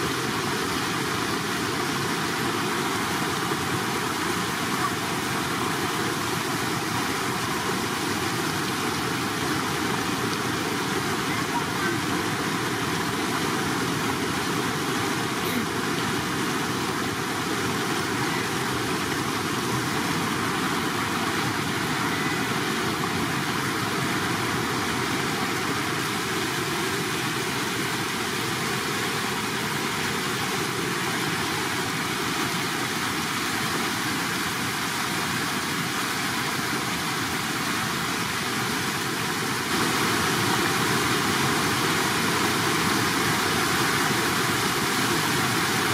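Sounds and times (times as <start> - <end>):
water rushing over spillway: 0.0 - 45.9.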